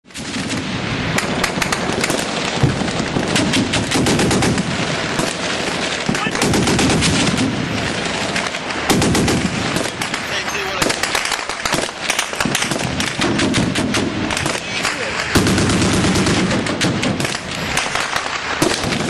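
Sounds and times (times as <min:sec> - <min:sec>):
constant noisy rumble: 0:00.1 - 0:19.0
rapid gunfire: 0:00.1 - 0:19.0.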